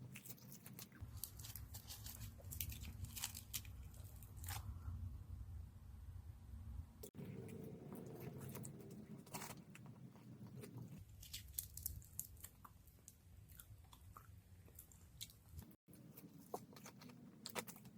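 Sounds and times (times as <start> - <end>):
crisp chewing crackles: 0.0 - 4.8, 7.0 - 17.9.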